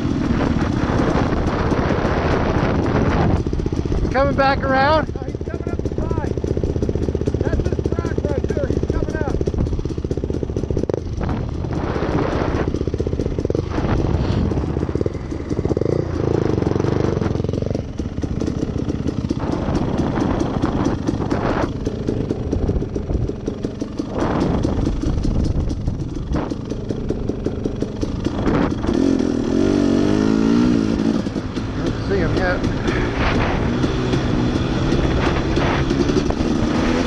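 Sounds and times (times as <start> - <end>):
dirt bike engine revving: 0.0 - 37.0
rushes of noise: 0.0 - 37.0.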